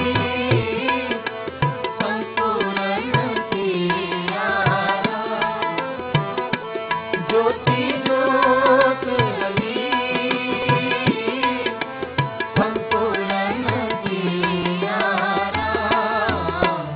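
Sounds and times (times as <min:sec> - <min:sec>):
harmonium notes: 0:00.0 - 0:16.9.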